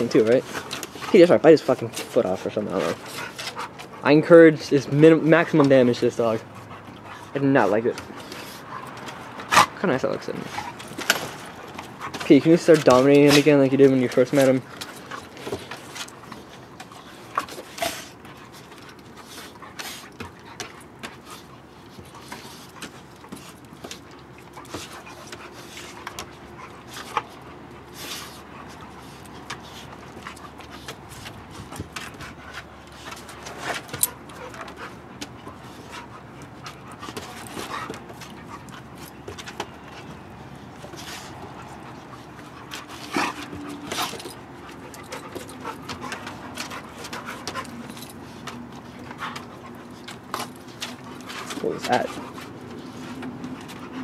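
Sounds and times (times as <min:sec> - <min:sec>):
dogs panting: 0:00.0 - 0:54.0.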